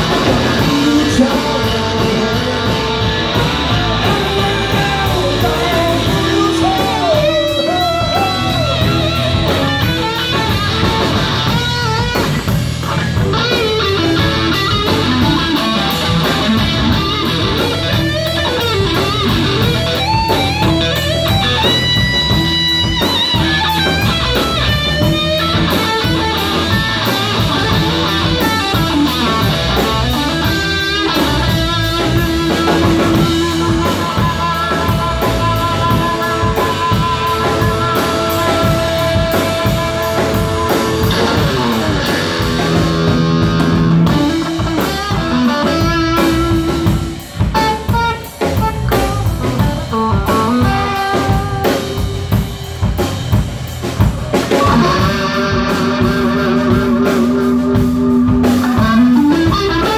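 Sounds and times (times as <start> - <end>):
drum kit: 0.0 - 59.9
electric bass: 0.0 - 59.9
electric guitar lead: 0.0 - 59.9.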